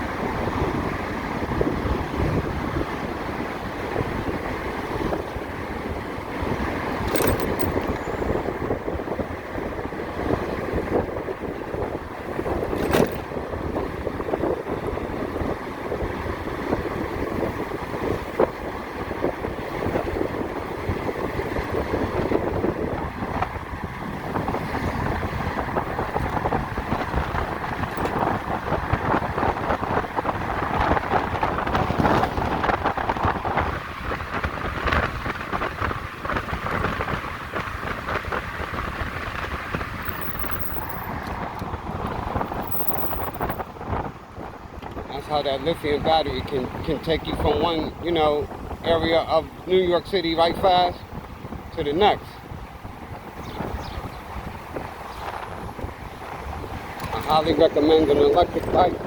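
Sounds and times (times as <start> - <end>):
road and traffic noise: 0.0 - 59.0
wind rushing over microphone: 0.0 - 59.0.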